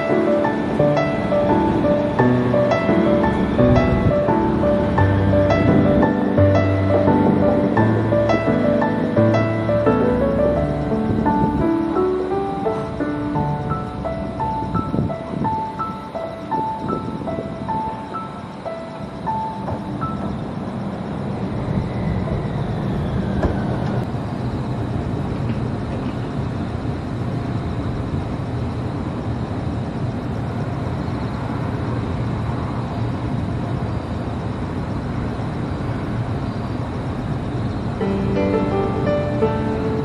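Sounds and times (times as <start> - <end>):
tram rumbling on track: 0.0 - 40.0.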